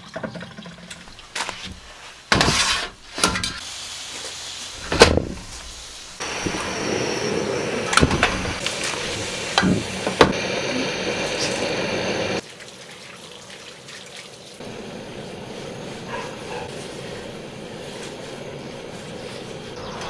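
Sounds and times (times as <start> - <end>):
gas stove burner hissing: 1.0 - 12.4, 14.6 - 20.0.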